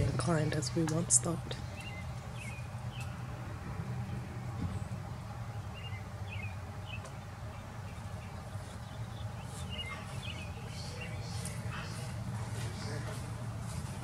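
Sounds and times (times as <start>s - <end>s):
low background rumble: 0.0s - 14.0s
small songbirds chirping: 0.5s - 13.6s.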